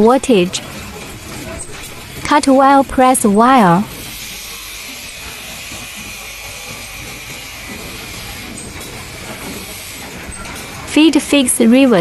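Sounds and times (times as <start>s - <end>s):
machine hiss and rumble: 0.0s - 12.0s.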